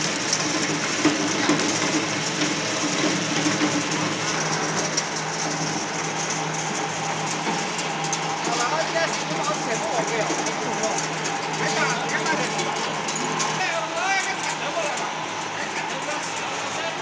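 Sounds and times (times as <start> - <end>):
shredder motor hum: 0.0 - 17.0.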